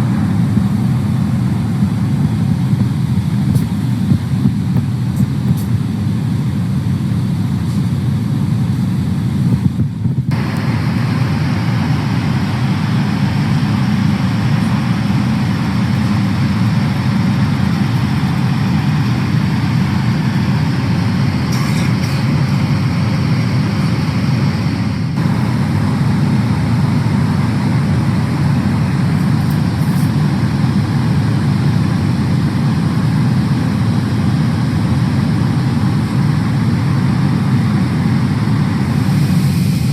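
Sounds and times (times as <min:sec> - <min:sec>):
airplane engine rumble in cabin: 0:00.0 - 0:39.9.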